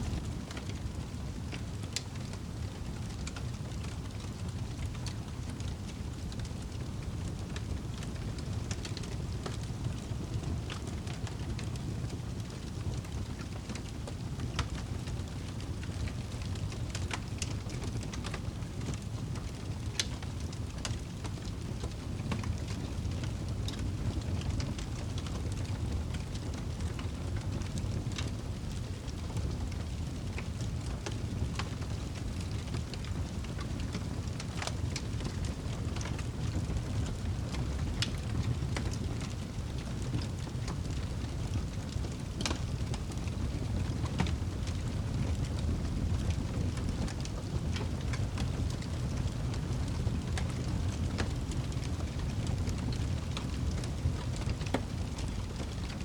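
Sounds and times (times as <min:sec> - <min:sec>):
low fire rumble: 0:00.0 - 0:56.0
campfire crackling and popping: 0:00.2 - 0:56.0.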